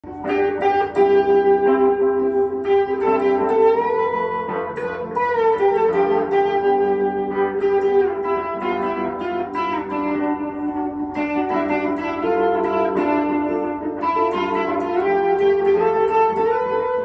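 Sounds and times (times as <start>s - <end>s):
guitar picking ringing melody: 0.0s - 17.0s.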